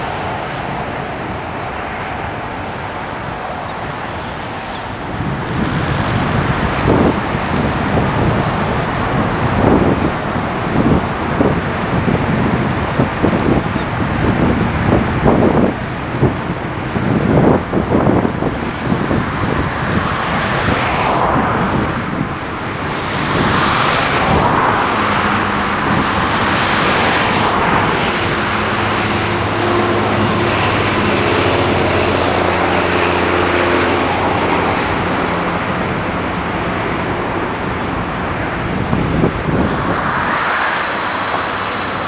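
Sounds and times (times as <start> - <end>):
jet airliner taking off: 0.0 - 42.0.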